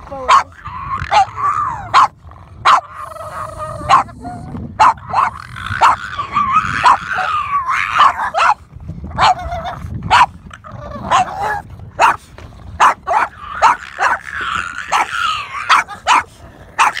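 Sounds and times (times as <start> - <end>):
dogs barking: 0.3 - 8.6, 9.2 - 12.2, 12.8 - 17.0
dogs whining and yelping: 0.3 - 12.2, 12.8 - 17.0.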